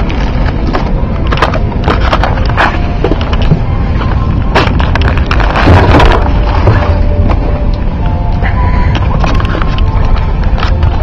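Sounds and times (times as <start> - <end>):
steady low cabin rumble: 0.0 - 11.0.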